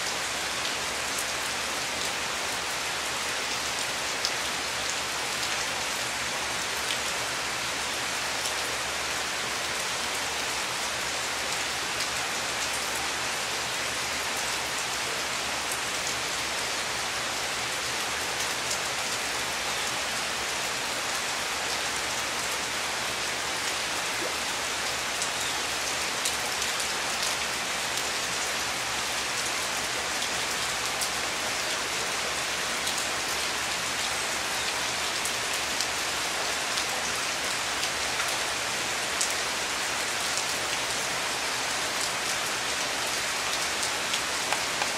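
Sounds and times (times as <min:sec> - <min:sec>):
heavy rain on foliage and roofs: 0:00.0 - 0:44.9.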